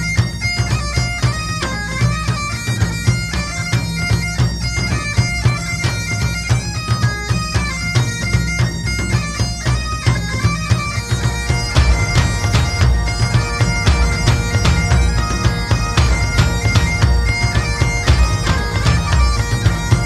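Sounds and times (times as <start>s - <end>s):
bagpipe tune with drone: 0.0s - 20.0s.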